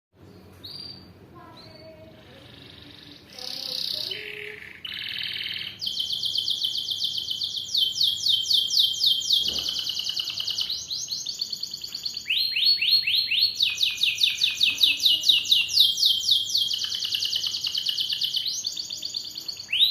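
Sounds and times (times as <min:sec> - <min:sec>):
canary singing trills: 0:00.2 - 0:19.9.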